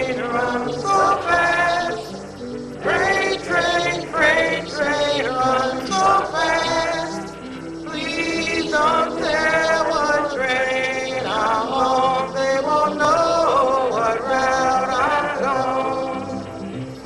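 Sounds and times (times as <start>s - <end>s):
fingerpicked acoustic guitars: 0.0s - 17.0s
person singing: 0.0s - 17.0s.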